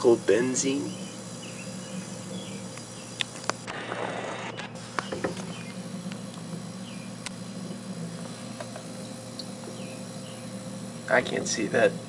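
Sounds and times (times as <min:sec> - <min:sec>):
faint chirps: 0:00.0 - 0:11.4
low hum: 0:00.0 - 0:12.0.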